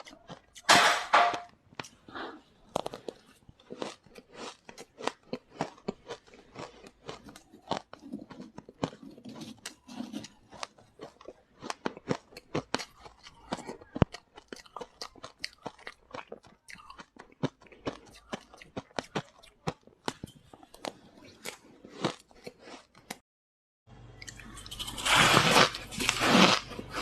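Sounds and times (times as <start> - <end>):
chewing frozen frost: 0.0 - 0.7, 1.8 - 23.2, 24.2 - 27.0.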